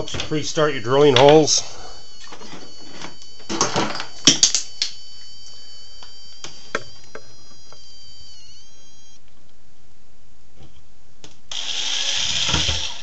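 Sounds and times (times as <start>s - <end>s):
drill high whine: 0.0s - 9.2s, 11.5s - 13.0s.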